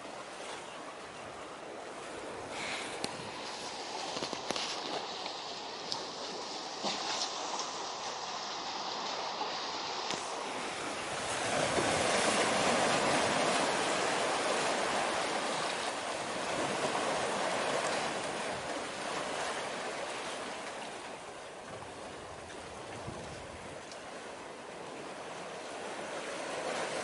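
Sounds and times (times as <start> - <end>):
water and waves rushing: 0.0 - 27.0.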